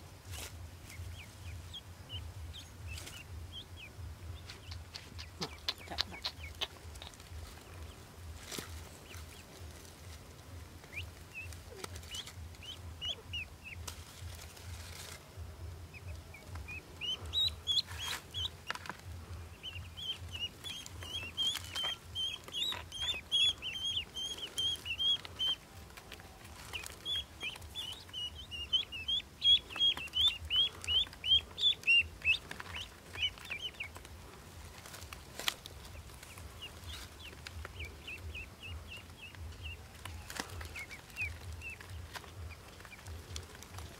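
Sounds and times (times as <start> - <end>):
ducklings peeping: 0.0 - 43.9.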